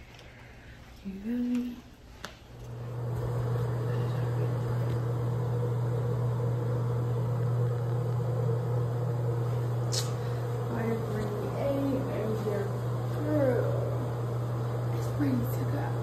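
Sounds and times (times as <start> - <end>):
low machine hum: 2.6 - 16.0.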